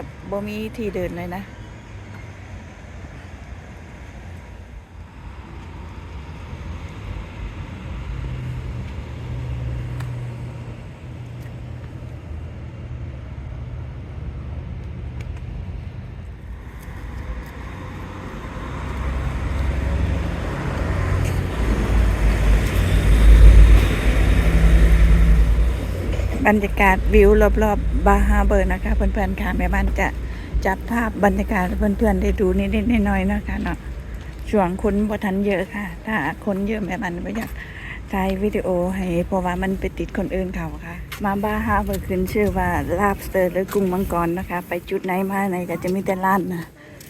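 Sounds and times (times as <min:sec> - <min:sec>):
traffic engine rumble: 0:00.0 - 0:47.0.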